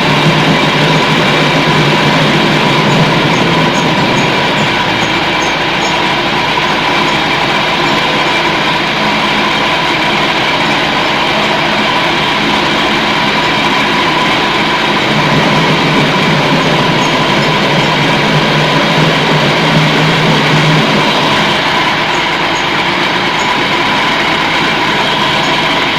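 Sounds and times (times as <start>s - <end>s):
meat grinding machine droning: 0.0s - 25.9s.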